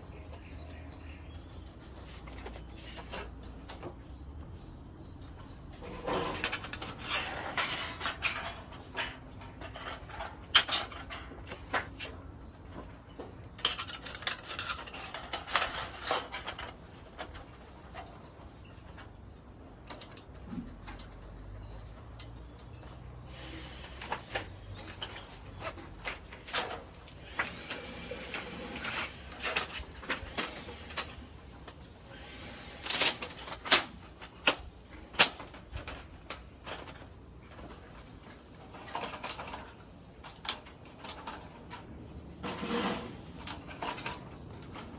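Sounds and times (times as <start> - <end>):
metal parts clinking and scraping: 2.0 - 3.8, 5.8 - 44.9.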